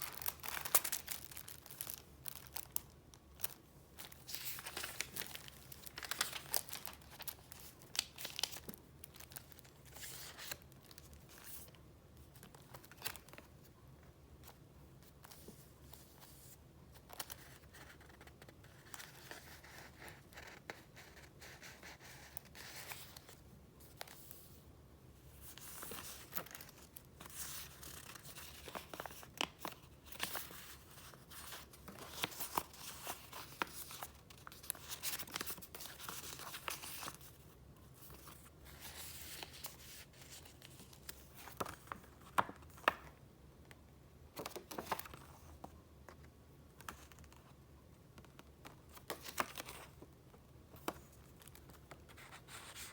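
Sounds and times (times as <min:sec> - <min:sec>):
paper rustling and pages flipping: 0:00.0 - 0:13.5, 0:14.4 - 0:24.5, 0:25.3 - 0:43.2, 0:44.3 - 0:47.6, 0:48.2 - 0:50.1.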